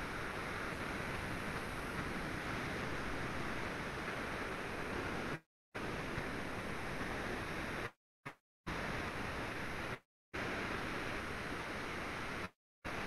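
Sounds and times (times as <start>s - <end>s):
microphone line hiss: 0.0s - 7.9s, 8.7s - 13.0s.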